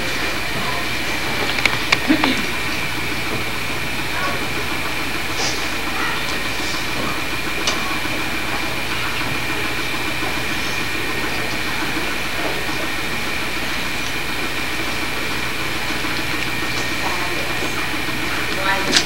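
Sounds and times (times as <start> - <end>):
camcorder hiss and hum: 0.0 - 19.0.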